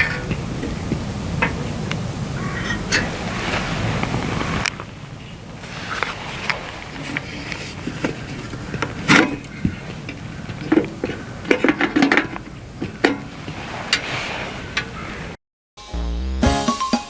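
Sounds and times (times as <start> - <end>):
camp gear clinking and knocking: 0.0 - 15.2.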